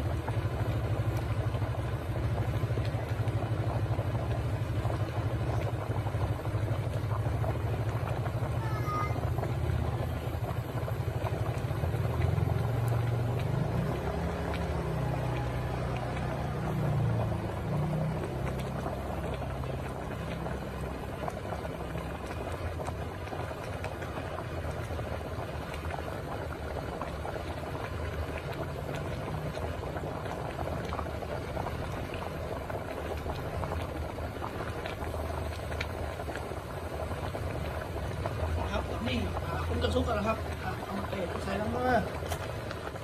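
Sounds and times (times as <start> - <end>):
broth boiling with small pops: 0.0 - 43.0
gas burner rumble: 0.0 - 43.0.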